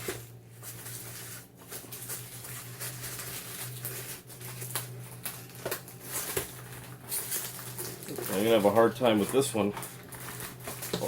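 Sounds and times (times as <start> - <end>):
packaging rustling and crackling: 0.0 - 11.0
steady low hum: 0.0 - 11.0.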